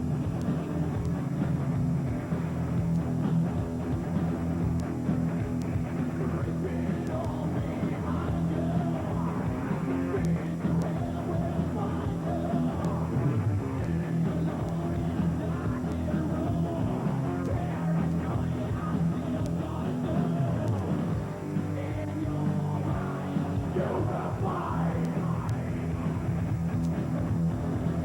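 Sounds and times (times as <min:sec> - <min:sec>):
rock band playing loud music: 0:00.0 - 0:28.0.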